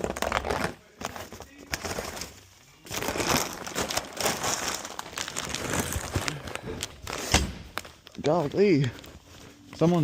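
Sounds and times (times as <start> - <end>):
rustling and crinkling: 0.0 - 10.0.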